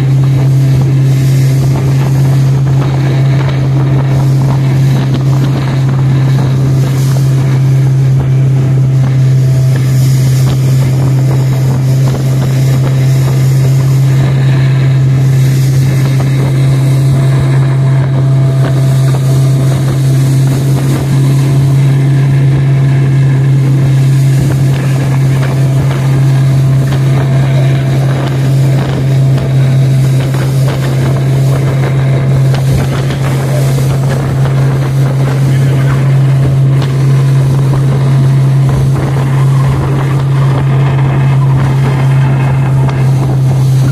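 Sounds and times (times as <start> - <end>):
motorboat engine humming: 0.0 - 43.9
water noise: 0.0 - 43.9
wind noise: 0.0 - 43.9.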